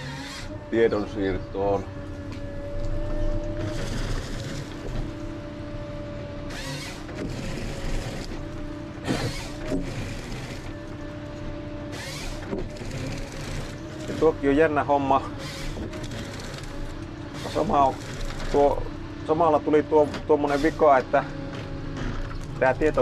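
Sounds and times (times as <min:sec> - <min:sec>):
engine and hydraulic hum: 0:00.0 - 0:23.0.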